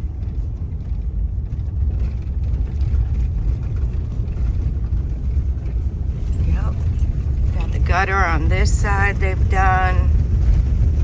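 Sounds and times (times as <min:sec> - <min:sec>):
car driving rumble: 0:02.1 - 0:11.0.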